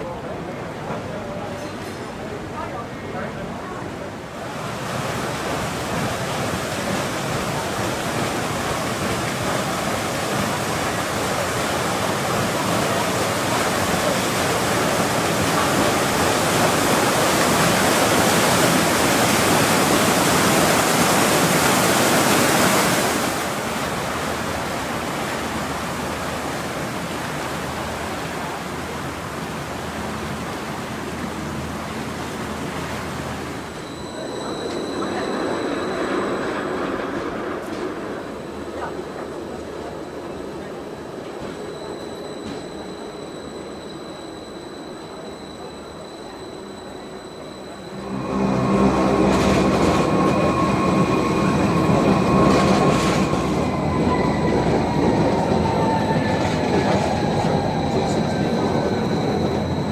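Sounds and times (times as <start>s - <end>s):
water rushing: 3.4s - 41.2s, 47.8s - 59.9s.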